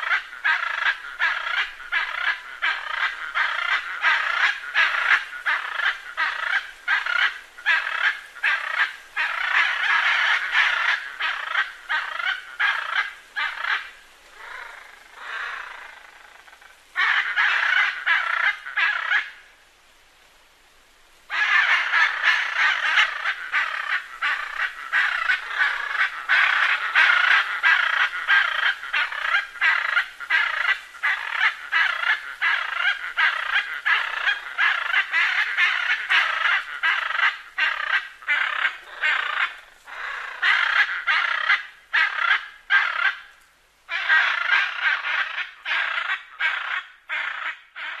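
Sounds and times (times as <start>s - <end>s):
macaws squawking: 0.0s - 19.4s, 21.3s - 48.0s.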